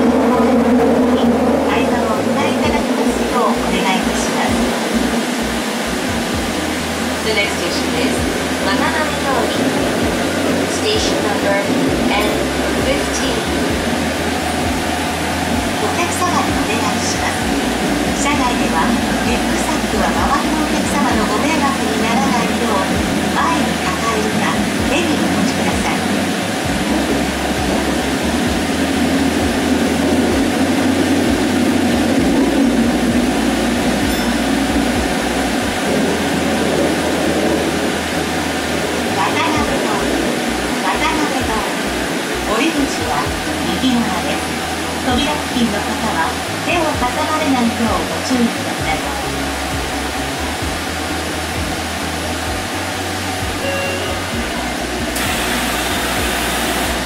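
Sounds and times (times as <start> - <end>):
train rumbling in tunnel: 0.0 - 57.0.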